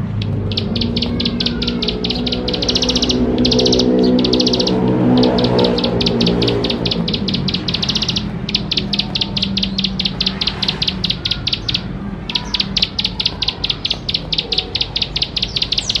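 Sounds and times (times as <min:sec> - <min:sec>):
bird churring song: 0:00.0 - 0:16.0.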